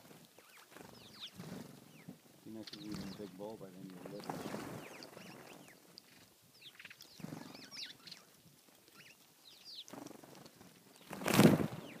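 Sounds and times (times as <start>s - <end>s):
flurry of wingbeats: 0.0s - 1.8s, 2.6s - 8.2s, 9.8s - 12.0s
sparrows chirping: 0.0s - 10.3s.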